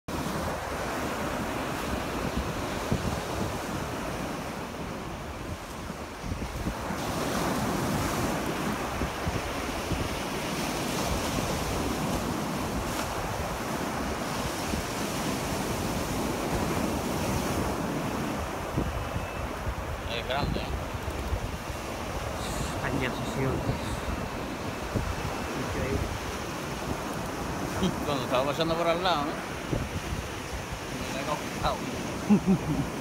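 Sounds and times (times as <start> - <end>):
surf breaking on a beach: 0.1 - 33.0
wind buffeting the microphone: 0.1 - 33.0.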